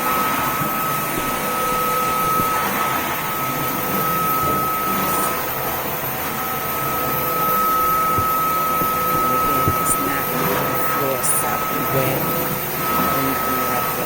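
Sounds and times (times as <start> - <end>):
vacuum mop motor whine: 0.0 - 14.0.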